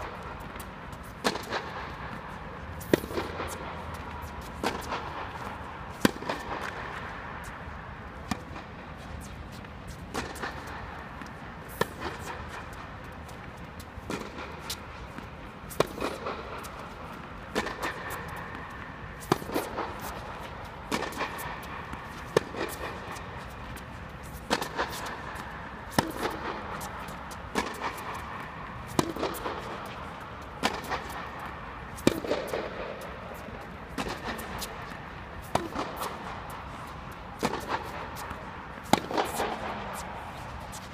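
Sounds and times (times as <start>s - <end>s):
tennis ball hit by rackets: 0.0s - 7.5s, 8.2s - 8.7s, 10.1s - 13.2s, 14.0s - 40.9s.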